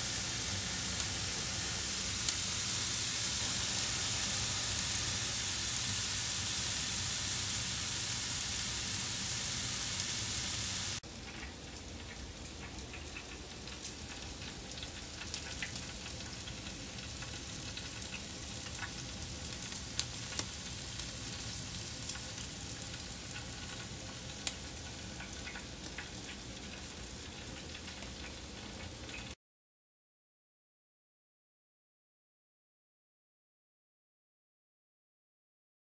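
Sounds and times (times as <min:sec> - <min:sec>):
meat sizzling on grill: 0:00.0 - 0:29.4.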